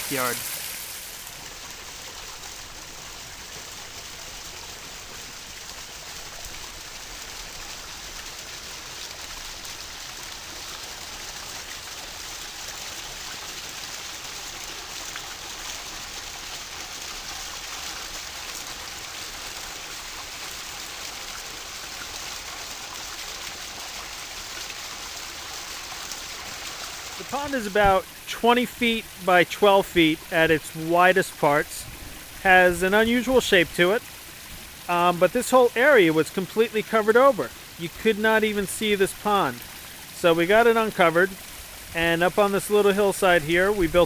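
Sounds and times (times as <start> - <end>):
waterfall splashing into pond: 0.0 - 44.0.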